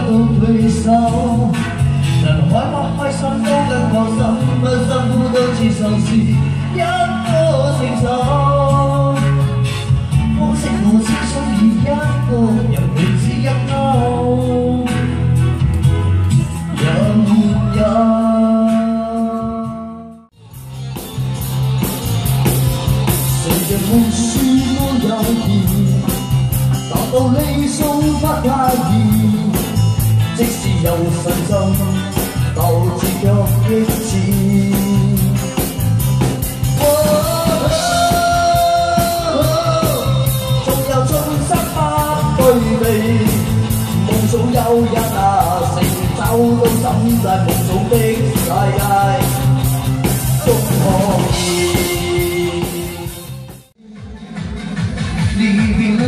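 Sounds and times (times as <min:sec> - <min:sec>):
man singing rock song: 0:00.0 - 0:20.4, 0:22.9 - 0:53.8, 0:55.2 - 0:56.0
live band with drums and guitar: 0:00.0 - 0:56.0.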